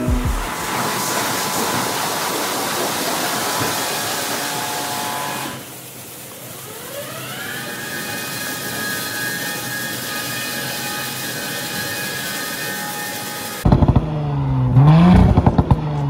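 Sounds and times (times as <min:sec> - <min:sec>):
high-pressure water jets hissing: 0:00.0 - 0:13.7
motor winding up with whine: 0:00.0 - 0:14.0.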